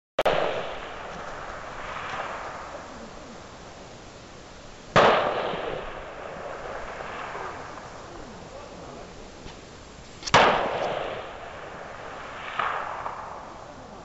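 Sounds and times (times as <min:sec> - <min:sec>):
rifle shots with rolling echo: 0:00.2 - 0:03.9, 0:04.9 - 0:09.3, 0:10.2 - 0:14.0.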